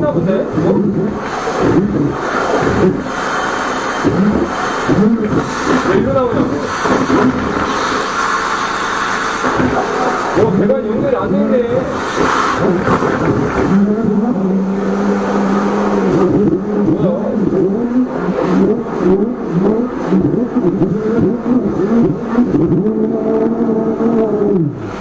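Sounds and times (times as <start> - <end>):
drain jetter motor and pump drone: 0.0 - 25.0.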